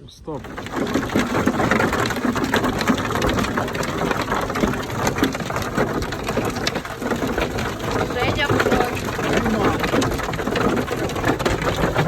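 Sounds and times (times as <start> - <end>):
heavy rain pattering: 0.4 - 12.0.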